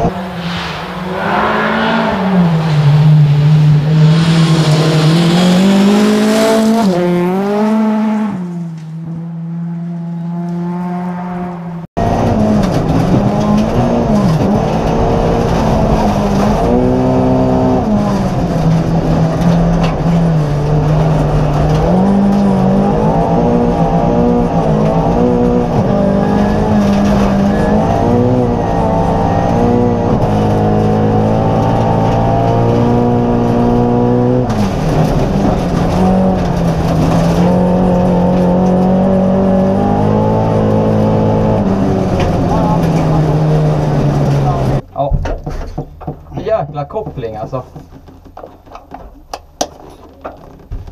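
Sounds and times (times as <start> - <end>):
car engine revving hard: 0.0 - 8.6, 9.5 - 44.8.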